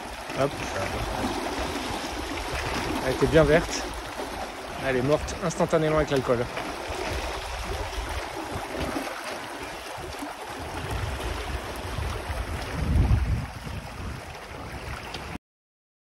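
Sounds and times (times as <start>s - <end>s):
wind buffeting microphone: 0.0s - 9.0s, 9.6s - 15.4s
sea wash: 0.0s - 15.4s.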